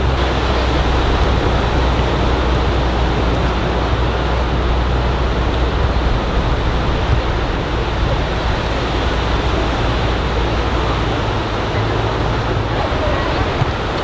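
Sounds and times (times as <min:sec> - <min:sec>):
low rumble: 0:00.0 - 0:14.0
ocean surf breaking on sand: 0:00.0 - 0:14.0.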